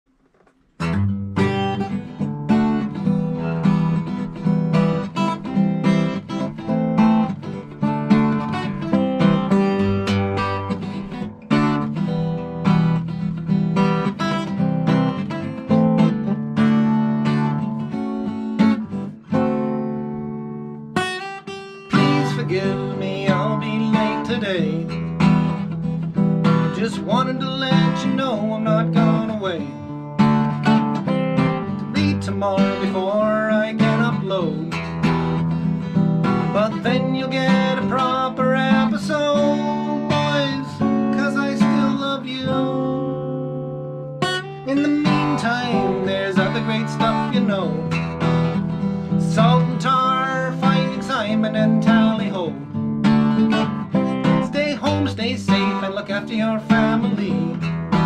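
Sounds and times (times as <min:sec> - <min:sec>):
acoustic guitar playing: 0:00.1 - 0:58.0.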